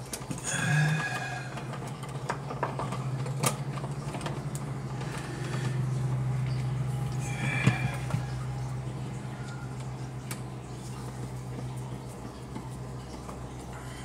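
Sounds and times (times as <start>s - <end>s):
low hum: 0.3s - 14.0s.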